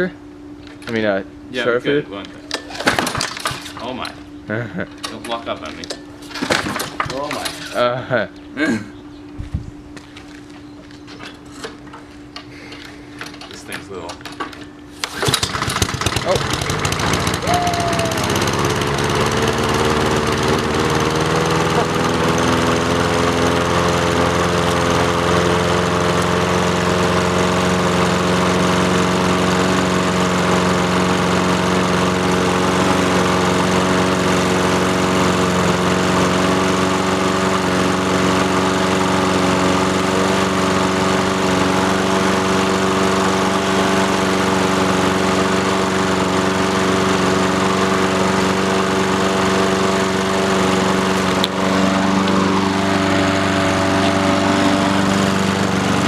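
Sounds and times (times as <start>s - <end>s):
lawnmower engine running: 2.3s - 8.1s, 10.1s - 56.0s.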